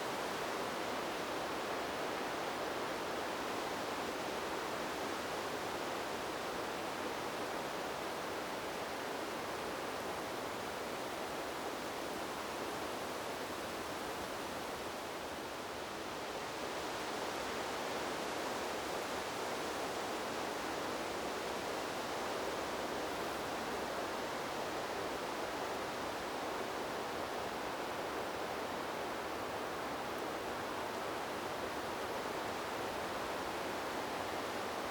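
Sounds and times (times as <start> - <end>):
wind through forest trees: 0.0 - 34.9.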